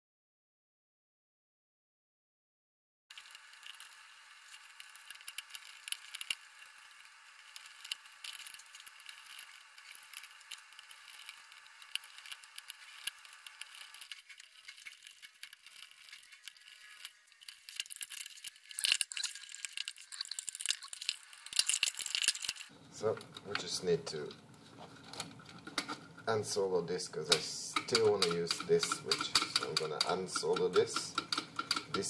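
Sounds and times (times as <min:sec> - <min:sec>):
small metal clicks and rattles: 0:03.1 - 0:24.4, 0:27.2 - 0:32.0.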